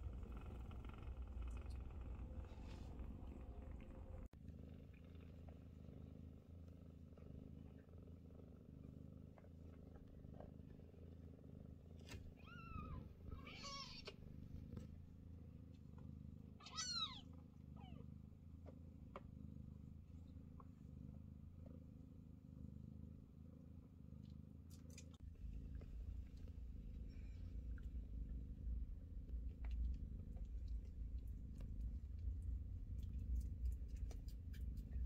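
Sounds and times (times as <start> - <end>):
cats purring: 0.0 - 35.0.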